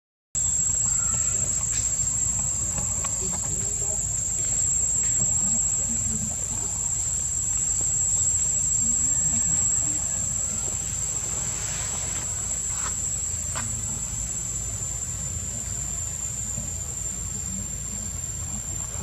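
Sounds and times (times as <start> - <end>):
insects buzzing: 0.4 - 19.0.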